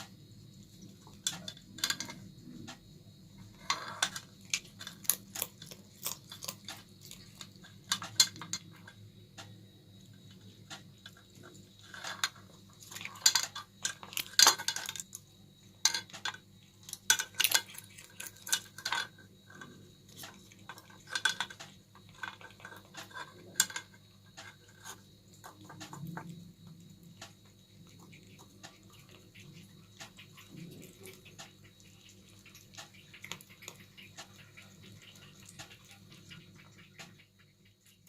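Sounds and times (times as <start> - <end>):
cat chewing and licking: 0.0 - 38.0.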